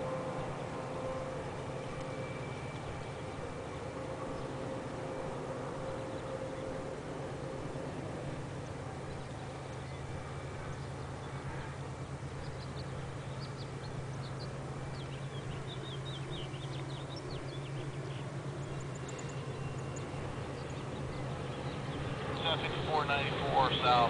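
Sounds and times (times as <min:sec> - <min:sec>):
distant diesel locomotives droning: 0:00.0 - 0:24.0
small birds chirping: 0:00.4 - 0:24.0.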